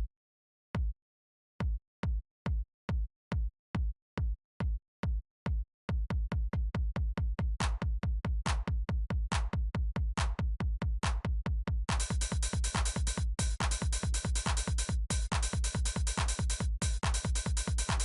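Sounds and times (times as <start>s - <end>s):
drum machine kick drum beat: 0.8s - 1.0s, 1.6s - 18.0s.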